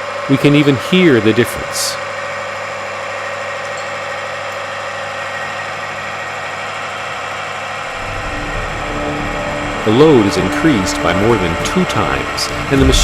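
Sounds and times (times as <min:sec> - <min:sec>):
machine hum with constant tone: 0:00.0 - 0:13.0.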